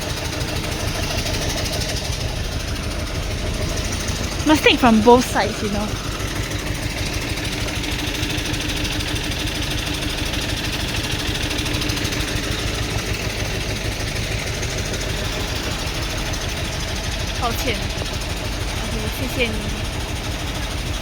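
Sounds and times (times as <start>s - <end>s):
heavy machinery engine idling: 0.0s - 21.0s.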